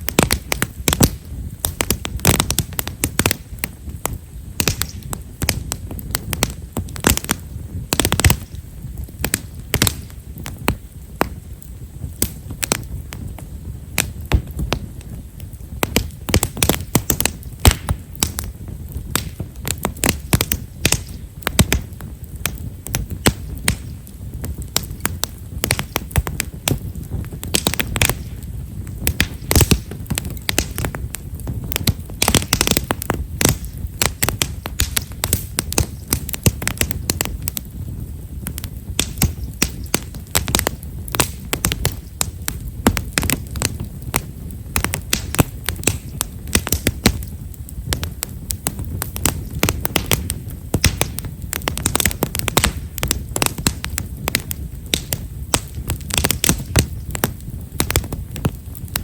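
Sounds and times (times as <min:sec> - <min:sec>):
low rumble of burning: 0:00.0 - 0:59.0
wood fire crackling and popping: 0:00.0 - 0:59.0.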